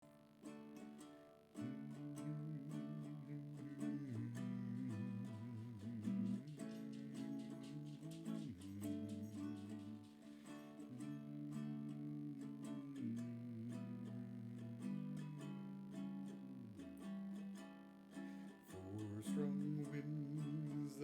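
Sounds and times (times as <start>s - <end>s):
ukulele strumming chords: 0.0s - 21.0s.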